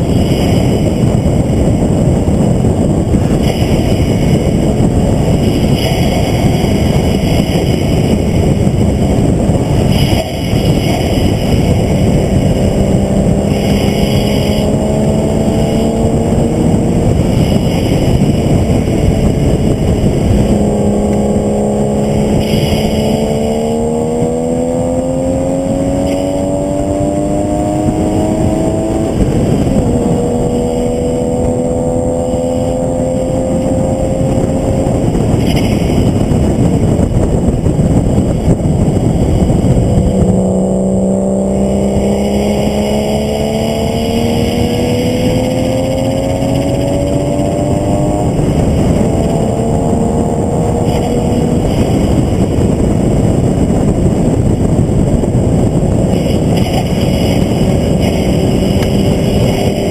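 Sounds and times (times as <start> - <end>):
racing engine revving: 0.0 - 59.9
wind and road noise: 0.0 - 59.9.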